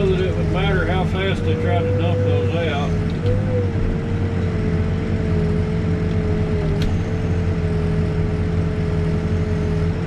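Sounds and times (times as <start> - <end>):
steady machine whine: 0.0 - 9.5
diesel engine drone: 0.0 - 10.0.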